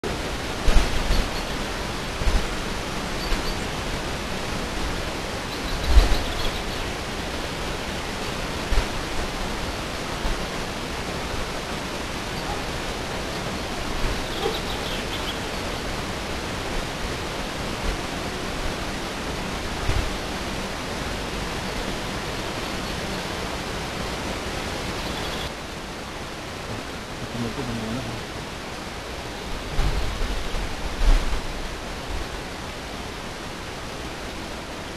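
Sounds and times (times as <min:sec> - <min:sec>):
recording hiss: 0:00.0 - 0:34.9.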